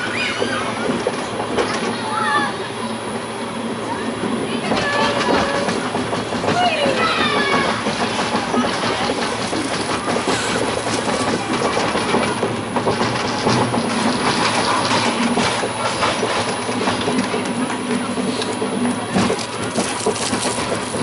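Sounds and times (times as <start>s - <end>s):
monorail wheels rattling and clicking: 0.0s - 21.0s.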